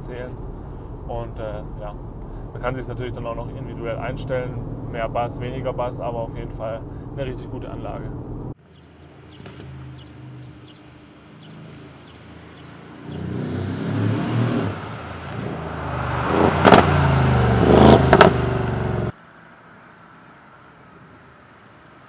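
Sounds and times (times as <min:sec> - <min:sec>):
car engine accelerating: 0:00.3 - 0:19.2.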